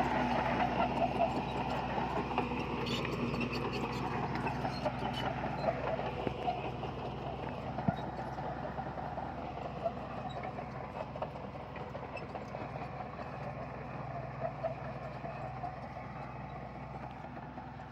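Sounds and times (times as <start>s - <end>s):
bulldozer engine running: 0.0s - 17.9s
light irregular clatter: 0.4s - 17.9s.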